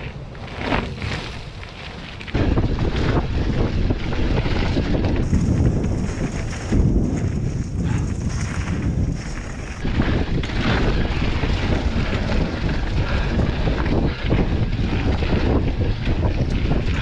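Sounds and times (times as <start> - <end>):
bike tyres rolling over leaves: 0.0 - 17.0
wind buffeting microphone: 0.0 - 17.0.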